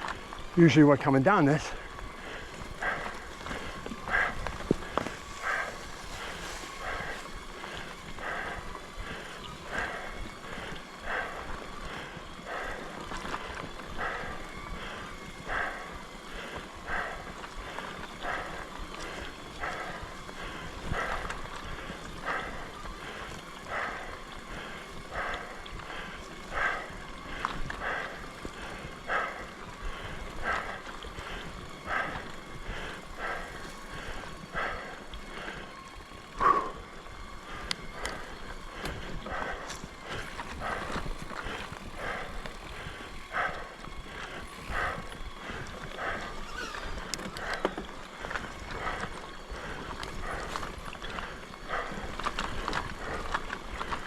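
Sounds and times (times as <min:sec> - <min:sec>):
rhythmic mountain bike sound: 0:00.0 - 0:54.0.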